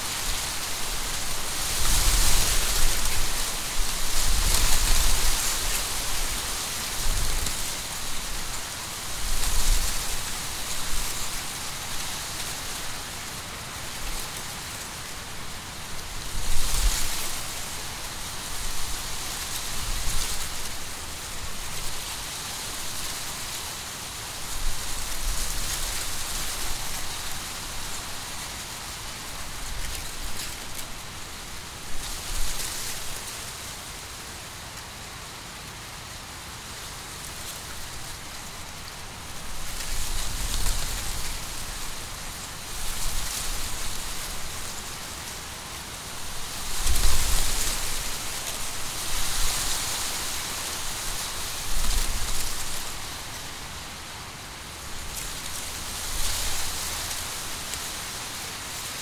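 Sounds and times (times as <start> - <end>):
wind rustling dry corn leaves: 0.0 - 59.0.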